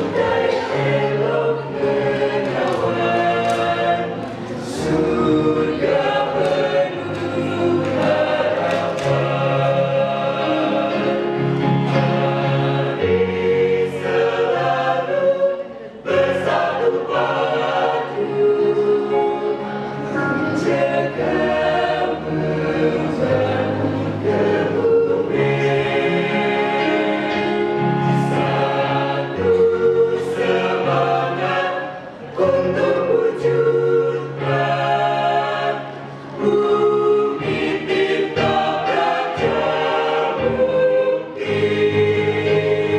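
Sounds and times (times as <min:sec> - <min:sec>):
children's choir singing a hymn: 0:00.0 - 0:42.9.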